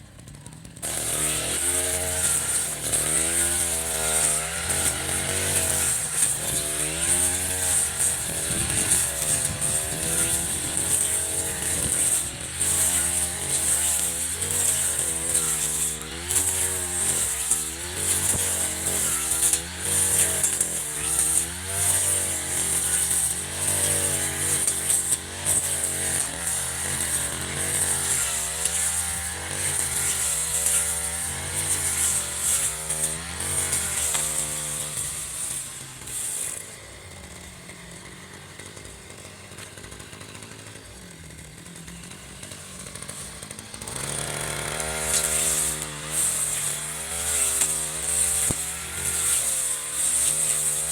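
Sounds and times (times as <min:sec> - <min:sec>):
brush cutter engine revving: 0:00.0 - 0:50.9.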